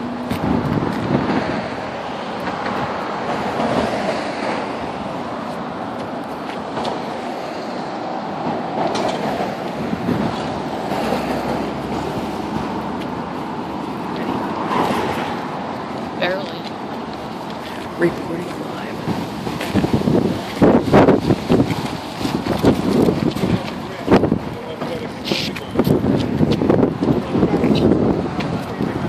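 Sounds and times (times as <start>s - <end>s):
cars passing on road: 0.0s - 29.0s.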